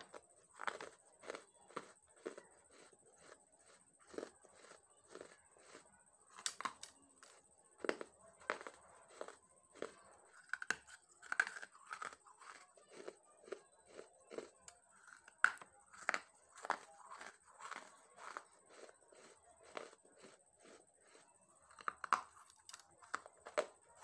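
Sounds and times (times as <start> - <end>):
chewing dry clay crunches: 0.0 - 24.0.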